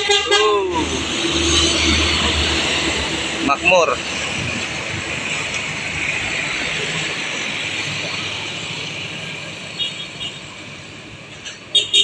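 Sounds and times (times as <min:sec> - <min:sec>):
engine rumble: 0:00.0 - 0:09.7
motorcycles passing: 0:00.3 - 0:11.7.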